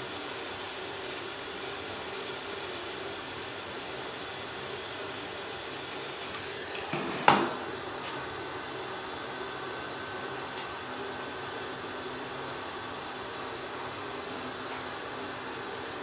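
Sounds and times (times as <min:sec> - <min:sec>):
steady fan whir: 0:00.0 - 0:16.0.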